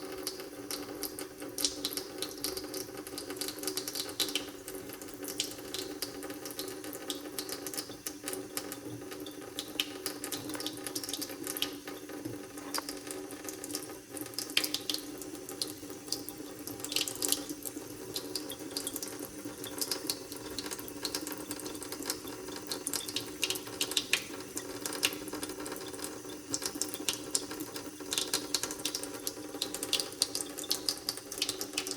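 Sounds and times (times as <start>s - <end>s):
water running from a tap: 0.0s - 31.9s.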